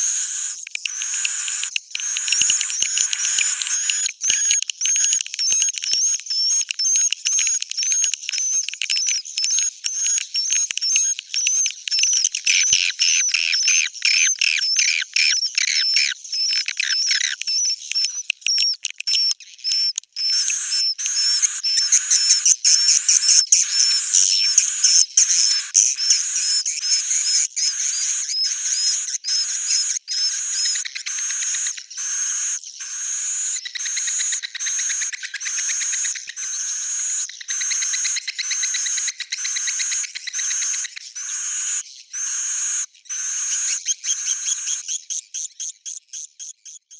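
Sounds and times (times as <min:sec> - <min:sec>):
high-pitched bird chirps: 0:00.0 - 0:45.0.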